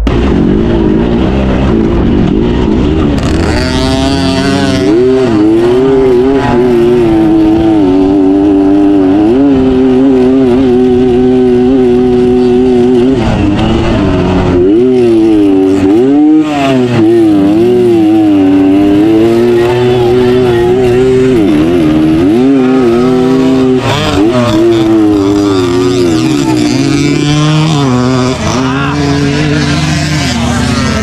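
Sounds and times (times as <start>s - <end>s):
racing motorcycle engine revving: 0.0s - 31.0s.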